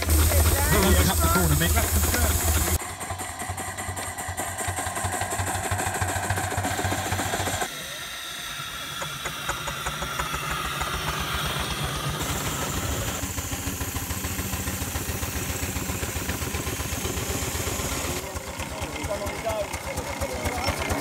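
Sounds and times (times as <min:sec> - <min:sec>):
engines pulling heavy load: 0:00.0 - 0:21.0.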